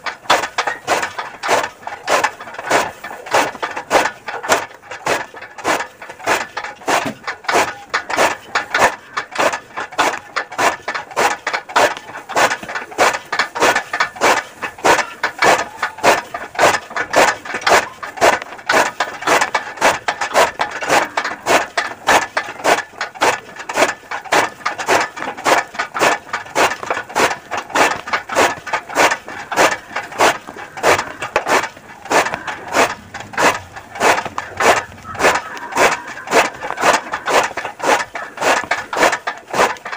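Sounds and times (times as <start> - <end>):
chaff cutter chopping grass: 0.0 - 39.9.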